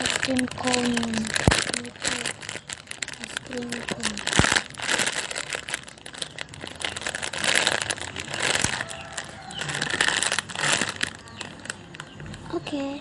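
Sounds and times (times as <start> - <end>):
squishy toy rustling and crinkling: 0.0 - 13.0.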